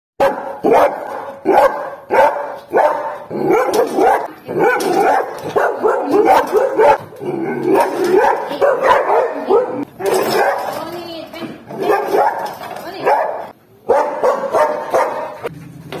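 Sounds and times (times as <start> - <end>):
dog barking aggressively: 0.2 - 10.8, 11.6 - 15.5.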